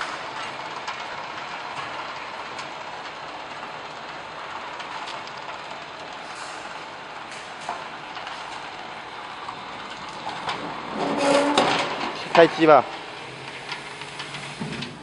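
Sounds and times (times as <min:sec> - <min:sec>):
machinery clattering: 0:00.0 - 0:15.0.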